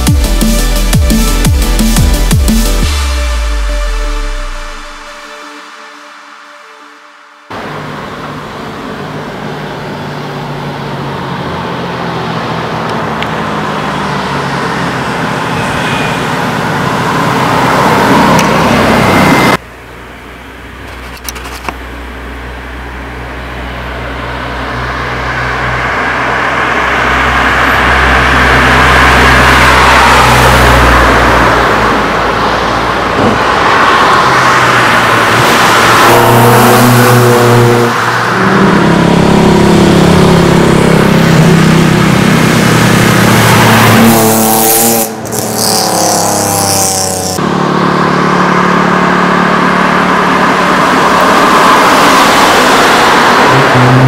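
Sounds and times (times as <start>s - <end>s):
car engines passing: 7.2s - 54.0s.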